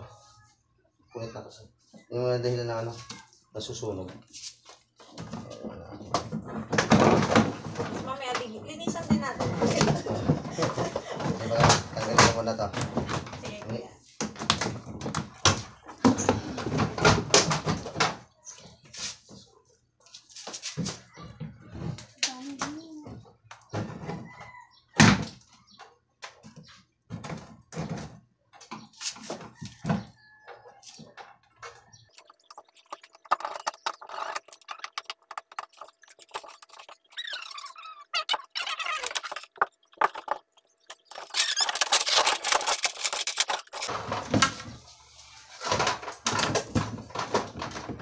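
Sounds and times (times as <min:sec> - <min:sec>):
plastic housing squeaking and scraping: 0:02.0 - 0:19.6, 0:20.2 - 0:48.0.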